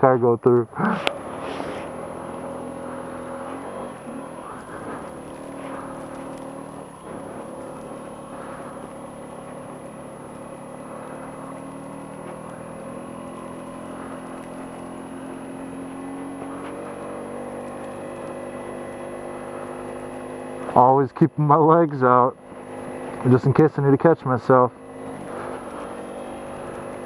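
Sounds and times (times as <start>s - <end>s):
scooter engine running: 0.0s - 27.0s.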